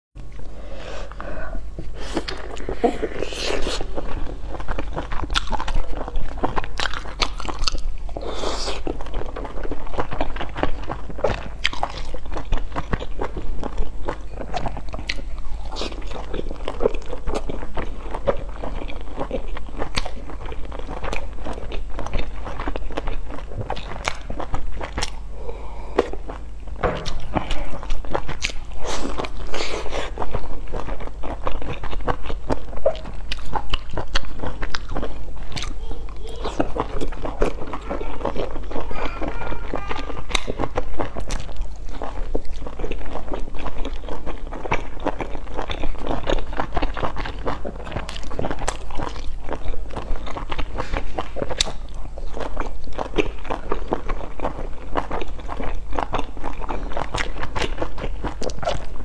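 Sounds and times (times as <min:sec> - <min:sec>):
biting and chewing: 0:00.2 - 0:59.0
low steady hum: 0:00.2 - 0:59.0.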